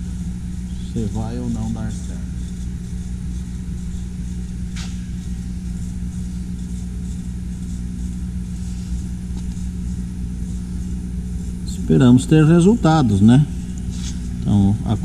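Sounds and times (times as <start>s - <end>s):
faint compressor hiss: 0.0s - 15.0s
laser engraving machine drone: 0.0s - 15.0s.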